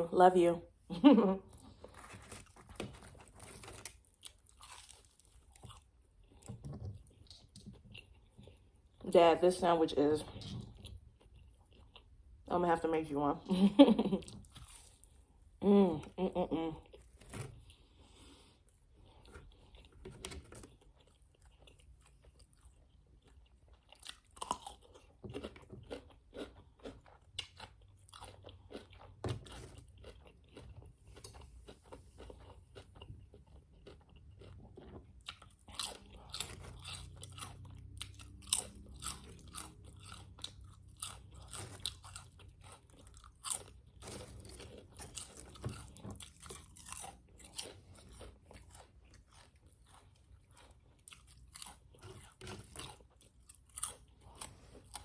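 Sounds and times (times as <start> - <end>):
person chewing crunchy sandwich: 1.4 - 9.0, 10.3 - 12.5, 14.2 - 15.6, 16.8 - 55.0.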